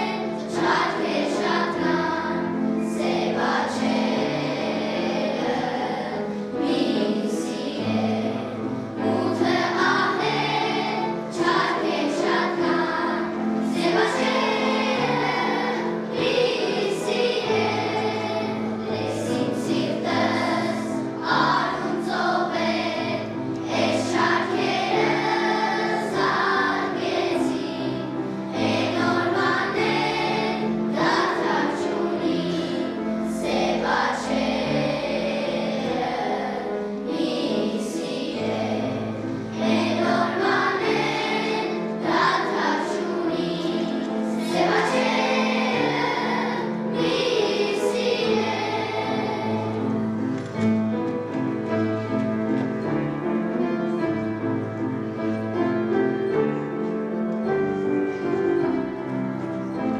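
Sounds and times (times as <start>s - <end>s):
children's choir singing: 0.0s - 59.9s
instrumental accompaniment: 0.0s - 59.9s.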